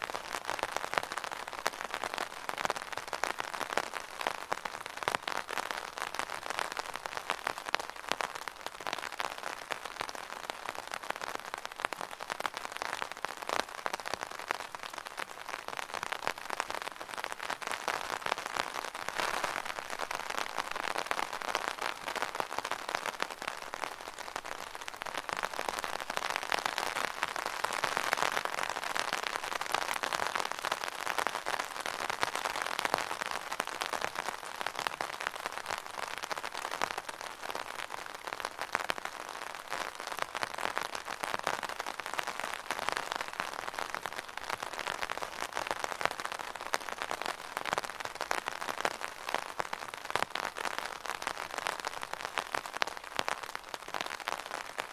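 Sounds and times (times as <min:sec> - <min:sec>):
rain pattering on an umbrella: 0:00.0 - 0:54.9.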